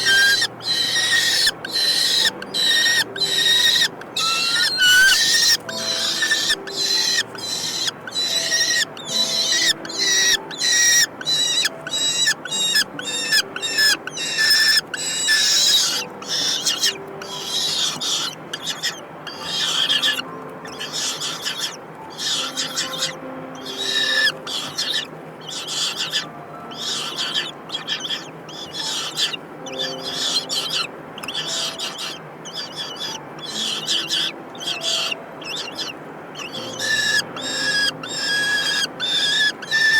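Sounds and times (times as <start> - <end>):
kestrels calling shrilly: 0.0 - 39.9.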